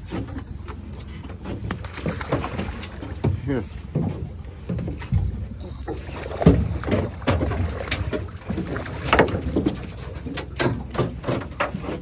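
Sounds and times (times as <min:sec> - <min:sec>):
boat engine low rumble: 0:00.0 - 0:12.0
fish thrashing and splashing: 0:01.3 - 0:12.0.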